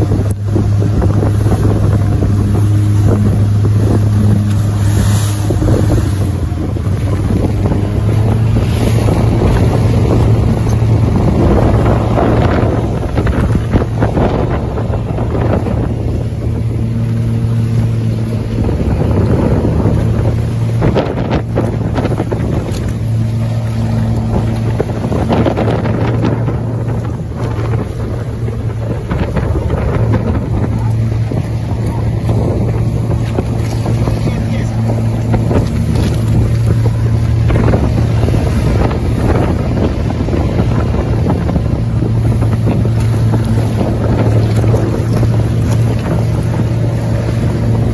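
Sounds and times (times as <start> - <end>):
motorboat engine droning: 0.0 - 47.9
water splashing along hull: 0.0 - 47.9
wind buffeting microphone: 0.0 - 47.9.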